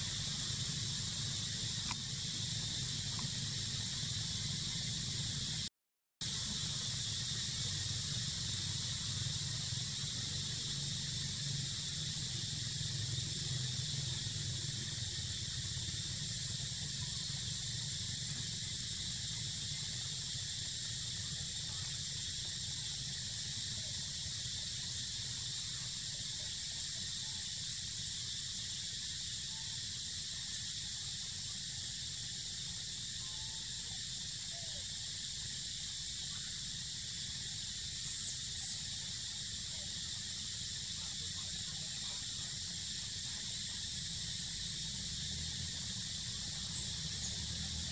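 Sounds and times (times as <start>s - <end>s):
insect chorus drone: 0.0s - 47.9s.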